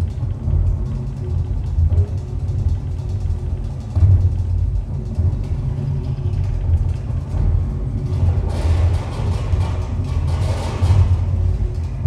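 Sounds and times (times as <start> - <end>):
noise music heavy low rumble: 0.0 - 12.0.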